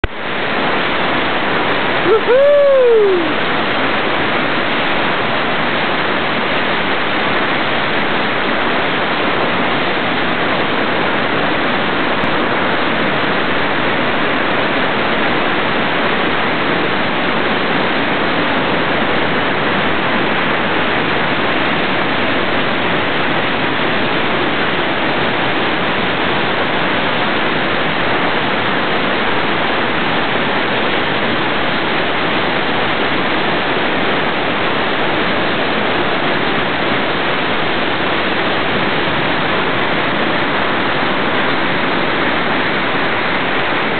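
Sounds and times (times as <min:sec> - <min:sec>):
rushing whitewater: 0:00.0 - 0:43.9.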